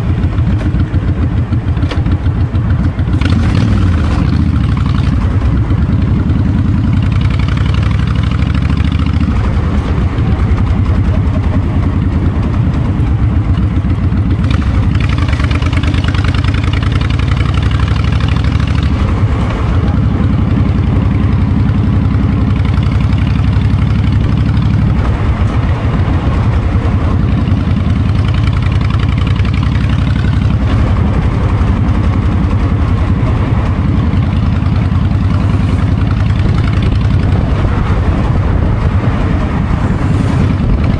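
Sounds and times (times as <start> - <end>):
motorcycle engine pulsing: 0.0 - 40.9
wind noise on microphone: 0.0 - 40.9.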